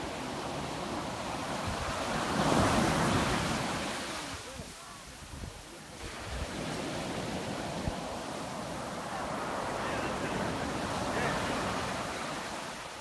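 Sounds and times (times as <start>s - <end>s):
small waves breaking on beach: 0.0s - 13.0s.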